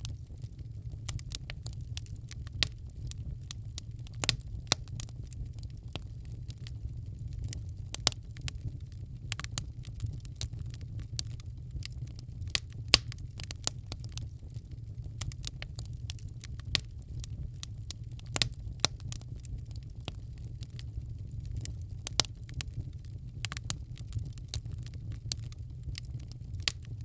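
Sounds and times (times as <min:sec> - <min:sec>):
steady low rumble: 0:00.0 - 0:27.0
wood fire crackling: 0:00.0 - 0:27.0.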